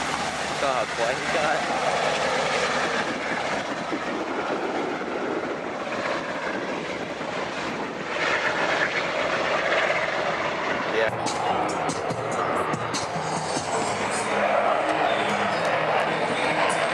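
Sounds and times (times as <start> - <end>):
aircraft engine flyby: 0.0 - 16.9.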